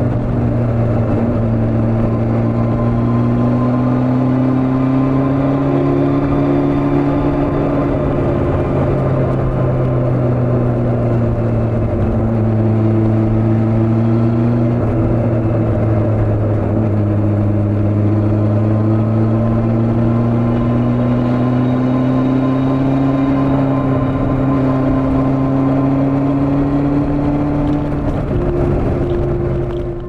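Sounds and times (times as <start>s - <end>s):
motorcycle engine cruising: 0.0s - 30.0s
wind rush: 0.0s - 30.0s.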